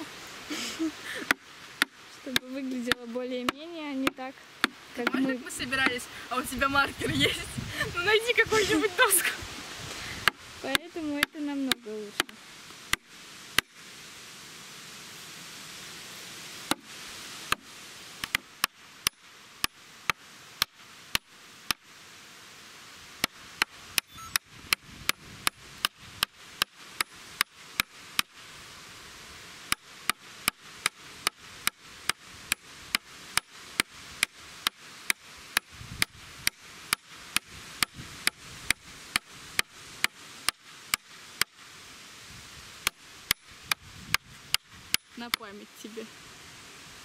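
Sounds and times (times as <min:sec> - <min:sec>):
steady hiss: 0:00.0 - 0:47.0.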